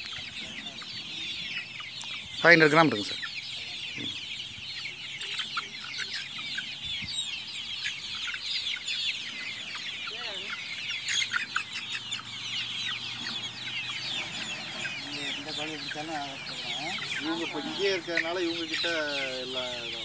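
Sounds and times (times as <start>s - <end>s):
chicks peeping and chirping: 0.0s - 20.0s.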